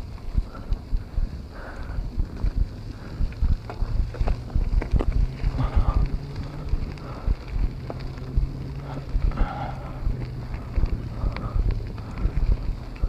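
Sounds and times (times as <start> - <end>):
steady low hum: 0.0 - 13.0
wind buffeting microphone: 0.0 - 13.0.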